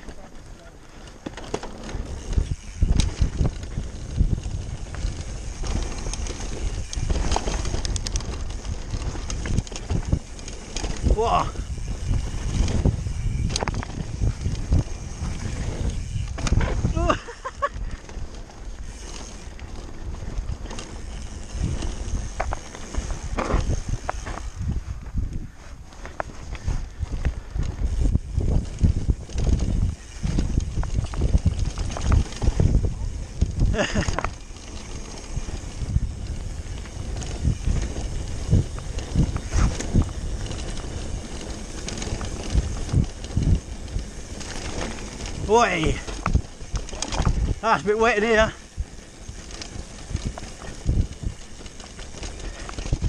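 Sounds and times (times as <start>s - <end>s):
bike knocks and rattles: 0.0s - 25.2s, 25.9s - 53.0s
bike rolling on dirt trail: 0.0s - 53.0s
bike tyres on wooden boardwalk: 0.0s - 53.0s
wind buffeting microphone: 0.0s - 53.0s.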